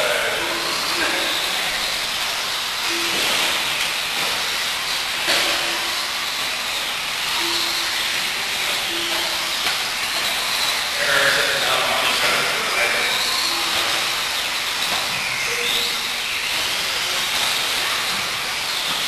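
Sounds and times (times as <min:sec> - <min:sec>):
short motor whines: 0:00.0 - 0:18.2
rc car motors and tyres hissing: 0:00.0 - 0:19.0.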